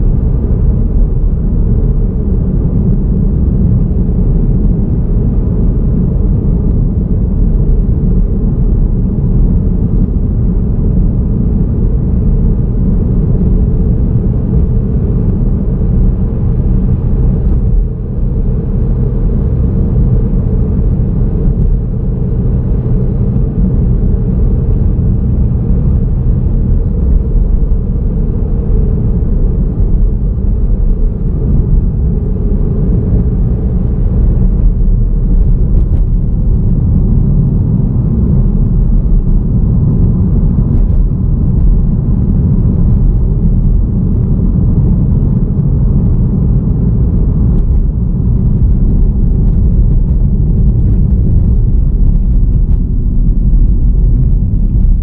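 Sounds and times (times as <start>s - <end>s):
car driving on road: 0.0s - 55.0s.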